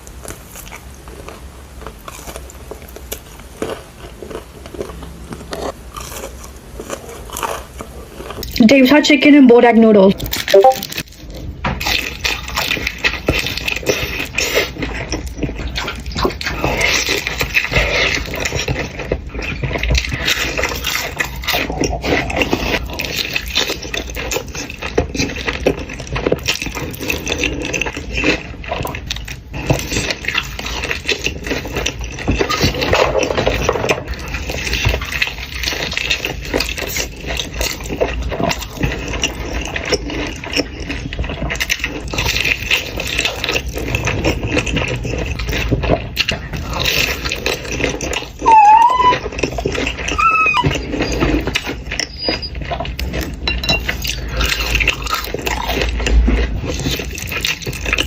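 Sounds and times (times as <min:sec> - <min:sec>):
chewing with mouth smacks: 0:00.0 - 0:08.8, 0:10.1 - 0:58.0.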